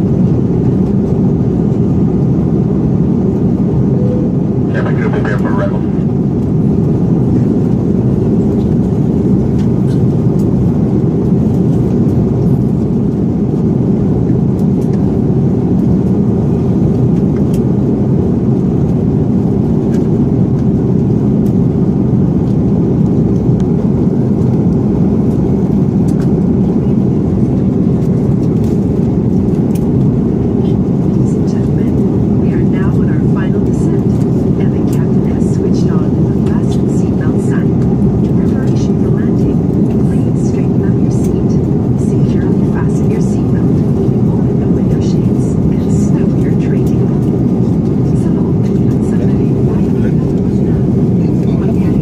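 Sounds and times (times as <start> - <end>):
airliner cabin drone: 0.0 - 52.0.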